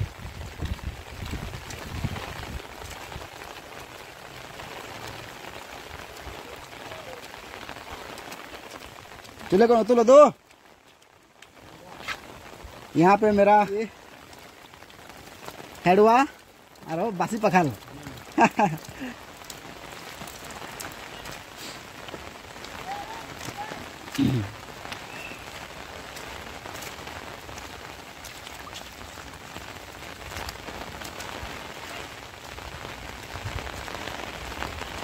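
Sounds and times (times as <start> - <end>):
steady rain falling: 0.0 - 35.0
ticks of raindrops close by: 0.0 - 35.0.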